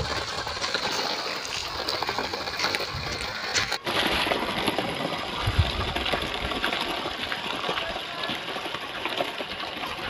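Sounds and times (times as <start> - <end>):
model tractor rolling on dirt: 0.0 - 10.0.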